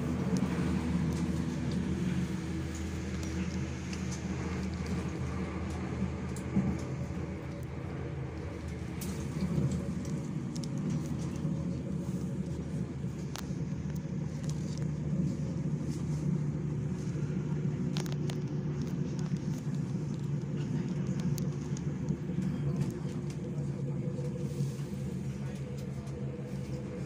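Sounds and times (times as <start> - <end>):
train rumble and hum: 0.0 - 27.0.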